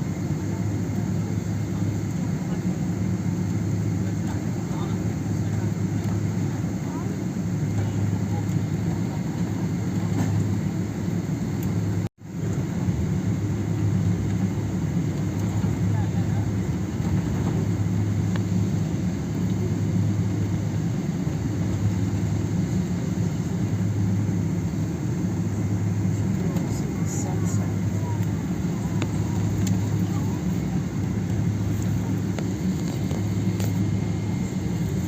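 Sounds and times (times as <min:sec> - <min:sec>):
airliner cabin hum: 0:00.0 - 0:35.0.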